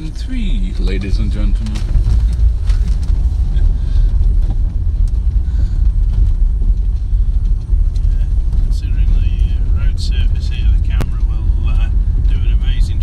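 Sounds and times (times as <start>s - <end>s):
road and engine noise: 0.0s - 13.0s
wind buffeting microphone: 0.0s - 13.0s.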